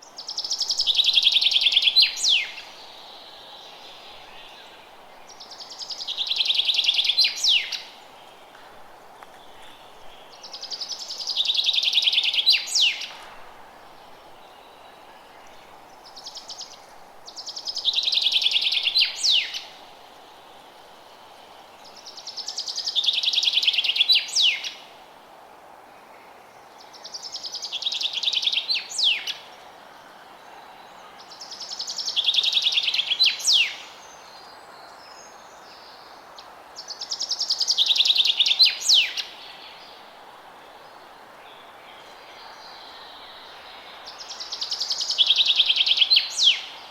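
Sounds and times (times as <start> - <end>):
songbird trilling song: 0.0 - 8.4, 9.3 - 13.4, 14.1 - 19.8, 21.9 - 24.8, 26.8 - 29.6, 30.5 - 36.2, 36.8 - 40.0, 40.8 - 46.9
faint outdoor hiss: 0.0 - 46.9.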